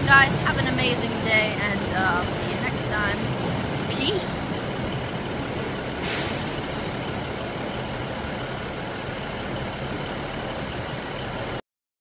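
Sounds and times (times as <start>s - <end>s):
railway station rumble and hiss: 0.0s - 11.6s.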